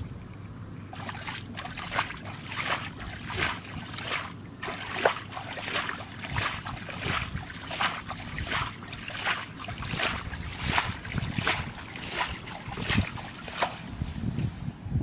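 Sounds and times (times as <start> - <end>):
hands splashing through muddy water: 0.9 - 14.2.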